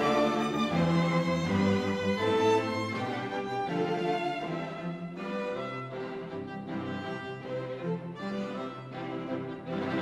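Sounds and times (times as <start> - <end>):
string ensemble playing: 0.0 - 10.0.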